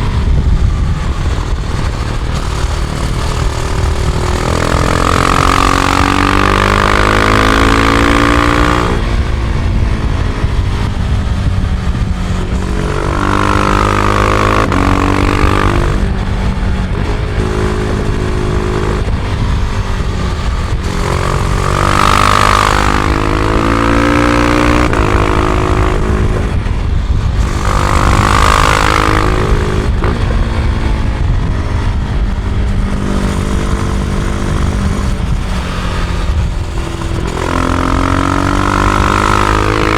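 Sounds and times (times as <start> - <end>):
motorcycle engine revving: 0.0 - 39.9
wind and road rumble: 0.0 - 39.9.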